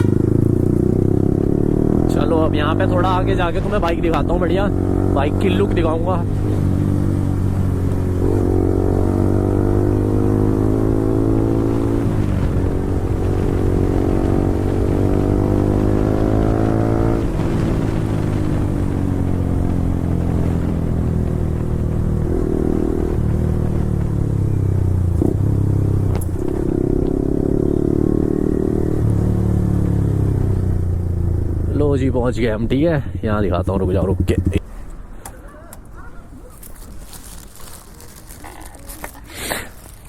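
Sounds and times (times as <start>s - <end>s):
motorcycle engine revving: 0.0s - 32.4s, 33.7s - 34.6s.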